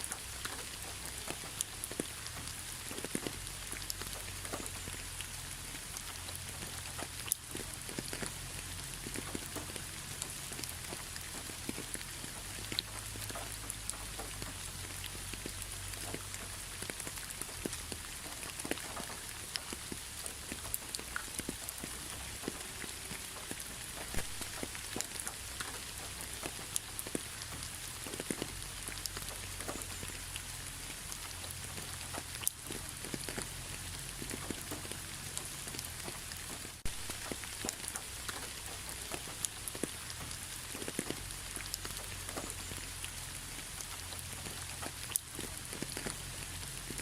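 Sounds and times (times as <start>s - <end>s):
rain hiss: 0.0s - 47.0s
raindrops ticking on a surface: 0.0s - 47.0s.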